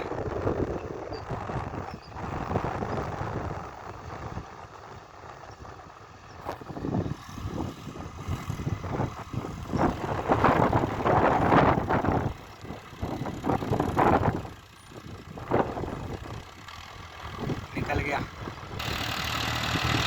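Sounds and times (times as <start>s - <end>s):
tractor engine under load: 0.0s - 20.0s.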